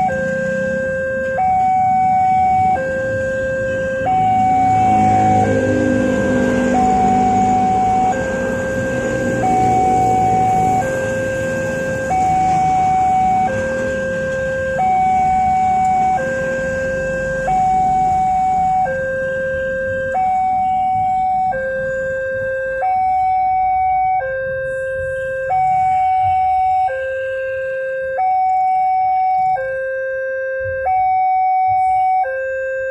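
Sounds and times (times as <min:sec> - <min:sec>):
motorbike traffic: 0:00.0 - 0:32.9
two-tone crossing alarm: 0:00.0 - 0:32.9.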